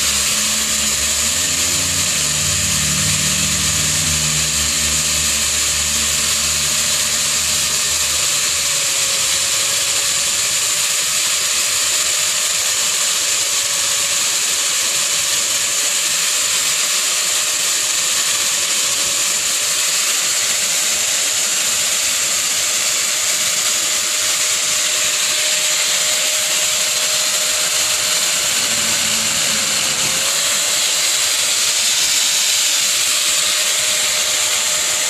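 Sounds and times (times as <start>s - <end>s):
angle grinder whining: 0.0s - 35.0s.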